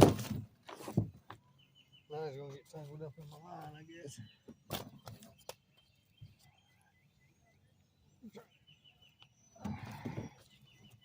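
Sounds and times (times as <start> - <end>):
small birds chirping: 0.3 - 11.0.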